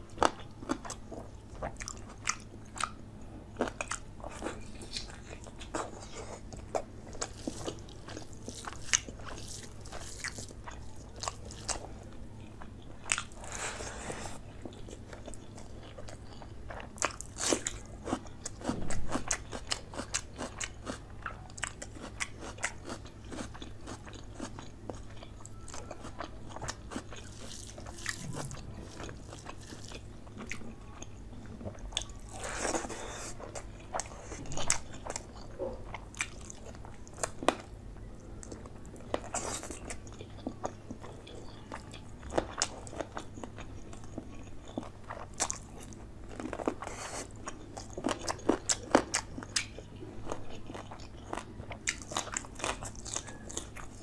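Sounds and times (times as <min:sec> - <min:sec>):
close chewing with crunches: 0:00.0 - 0:54.0.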